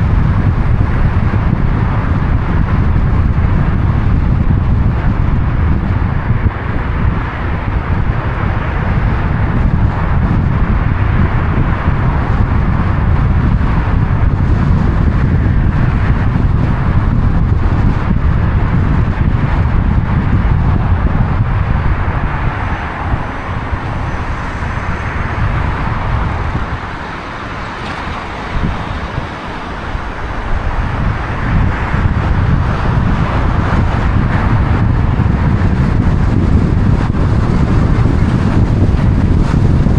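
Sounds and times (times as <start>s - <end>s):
car road and wind noise: 0.0s - 39.9s
wind buffeting microphone: 0.0s - 39.9s.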